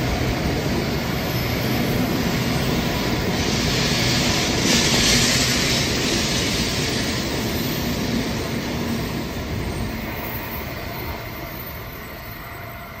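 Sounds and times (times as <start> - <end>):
high speed train passing: 0.0 - 13.0.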